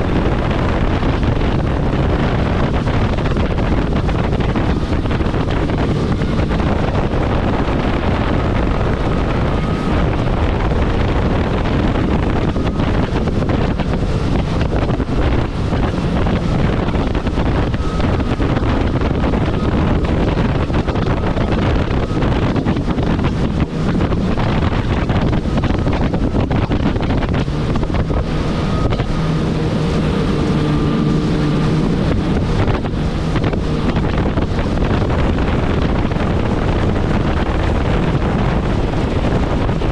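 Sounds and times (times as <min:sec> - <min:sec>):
jet ski engine hum: 0:00.0 - 0:39.9
wind rushing over microphone: 0:00.0 - 0:39.9.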